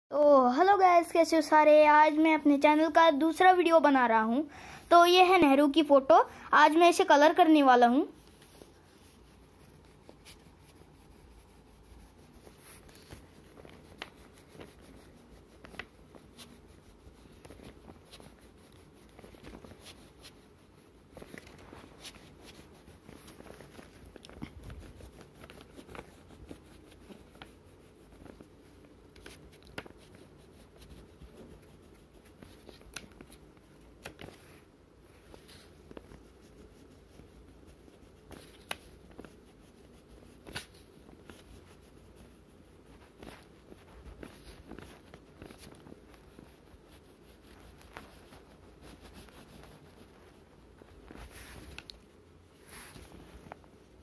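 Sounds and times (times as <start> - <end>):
crayon scratching on paper: 6.7 - 53.6.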